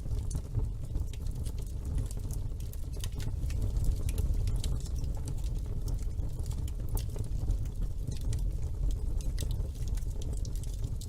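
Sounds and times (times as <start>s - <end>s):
fire rumbling: 0.0s - 11.0s.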